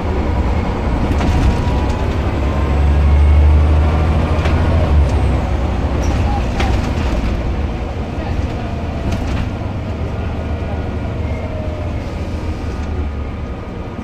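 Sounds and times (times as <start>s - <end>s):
bus engine rumble: 0.0s - 14.0s.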